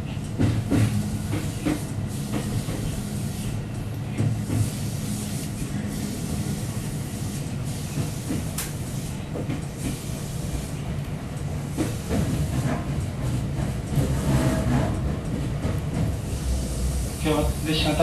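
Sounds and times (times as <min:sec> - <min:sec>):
electric train hum and hiss: 0:00.0 - 0:18.0
sharp clicks from train wheels: 0:00.1 - 0:18.0.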